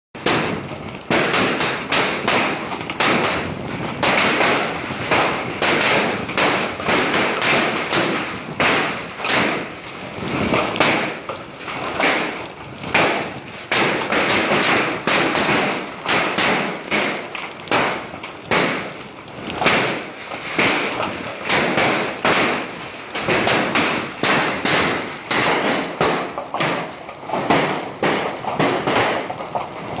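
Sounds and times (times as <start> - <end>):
heavy rain pouring: 0.2 - 30.0.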